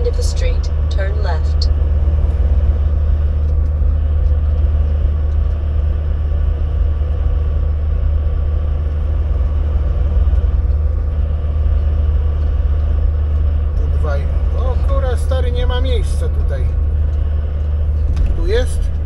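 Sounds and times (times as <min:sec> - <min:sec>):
truck diesel engine rumble: 0:00.0 - 0:19.0.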